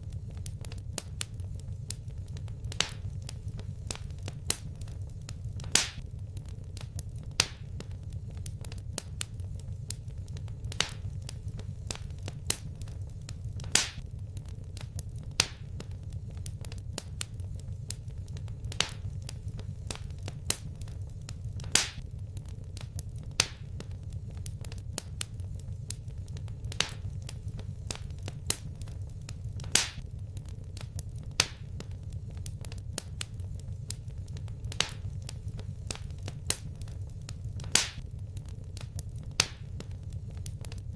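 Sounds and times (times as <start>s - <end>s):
low fire rumble: 0.0s - 40.9s
wood fire crackling: 0.0s - 40.9s.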